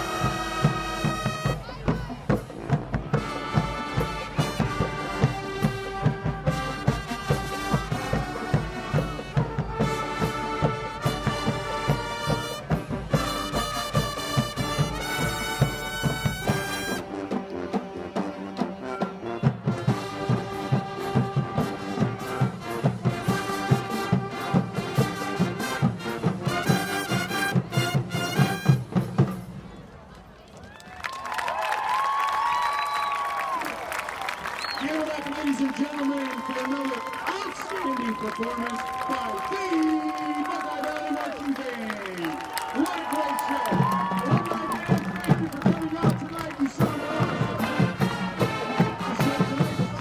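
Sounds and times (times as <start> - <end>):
drumline beat: 0.0 - 29.6, 33.2 - 50.0
marching band playing: 0.0 - 29.8, 32.4 - 50.0.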